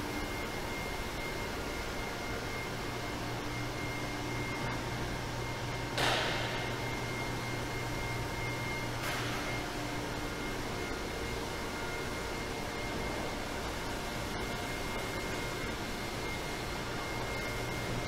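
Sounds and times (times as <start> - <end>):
faint steady whines: 0.0 - 18.0
machinery electric hum: 0.0 - 18.0.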